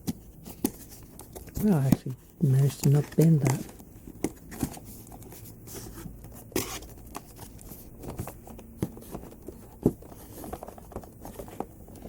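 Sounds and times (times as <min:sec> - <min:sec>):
packaging rustling and clicking: 0:00.0 - 0:12.0.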